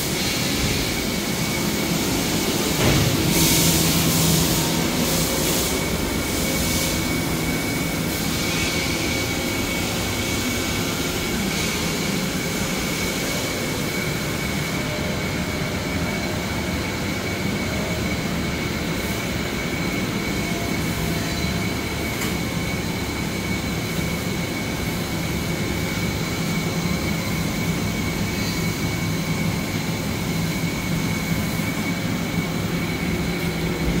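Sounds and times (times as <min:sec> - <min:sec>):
lathe machinery hum: 0:00.0 - 0:34.0.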